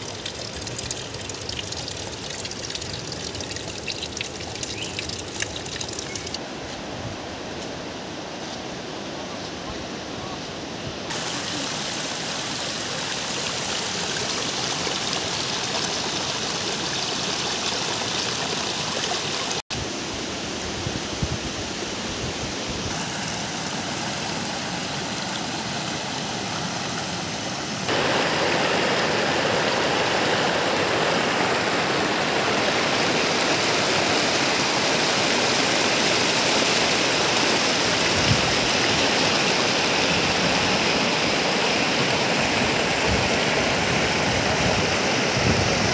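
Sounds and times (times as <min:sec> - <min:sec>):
river rushing over boulders: 0:05.0 - 0:45.9.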